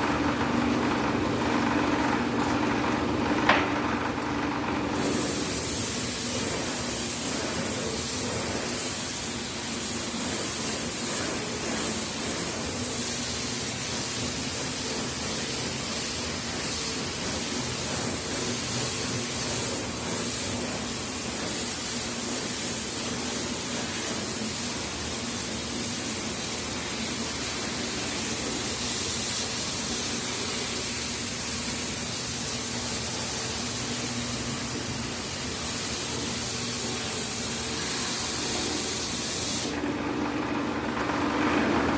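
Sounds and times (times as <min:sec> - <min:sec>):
sanding hiss on wood: 0:05.0 - 0:39.8.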